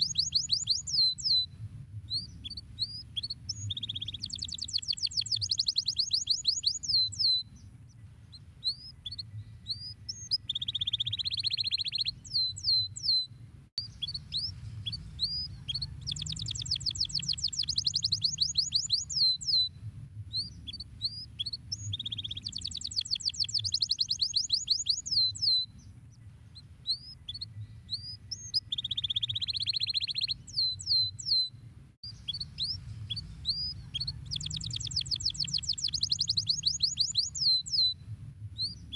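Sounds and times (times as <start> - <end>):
canary singing: 0.0 - 1.5, 2.2 - 19.7, 20.3 - 38.0
low steady hum: 0.0 - 38.9.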